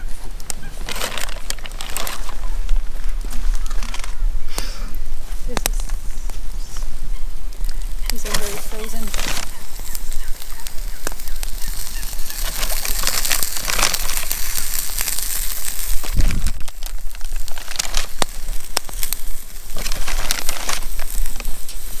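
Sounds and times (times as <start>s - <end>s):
plastic packaging crinkling: 0.0s - 4.2s, 7.6s - 22.0s.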